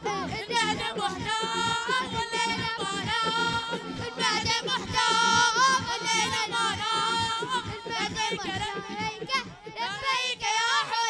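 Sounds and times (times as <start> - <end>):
boys chanting through microphones: 0.0 - 11.0.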